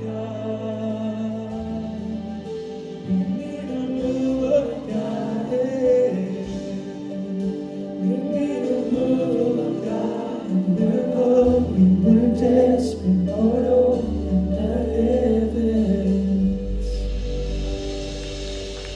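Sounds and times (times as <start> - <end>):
worship song singing: 0.0 - 18.9.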